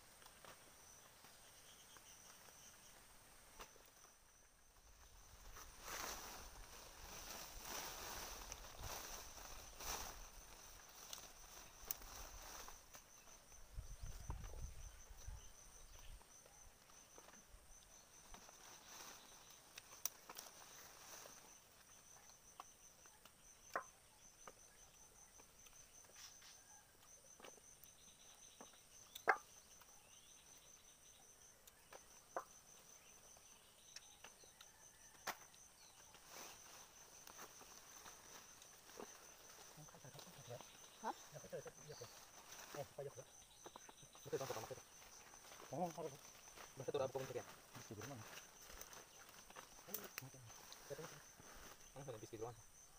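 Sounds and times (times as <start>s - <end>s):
insect trilling: 0.0s - 52.9s.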